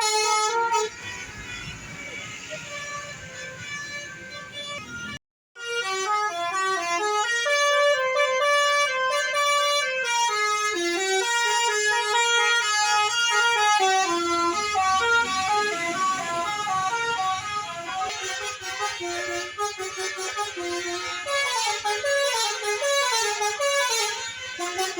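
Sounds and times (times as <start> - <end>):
multi-tone musical bus horn: 0.0 - 24.9.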